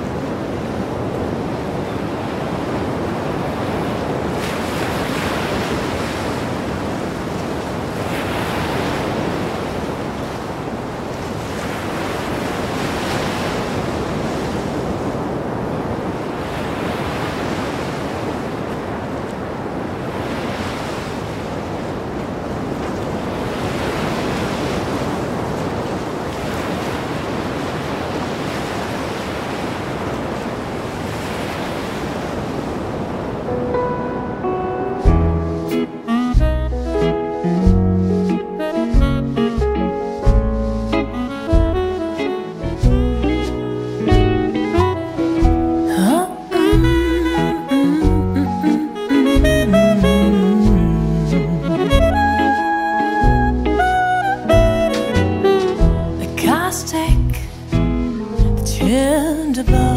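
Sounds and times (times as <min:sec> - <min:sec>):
waves washing onto beach: 0:00.0 - 0:58.6.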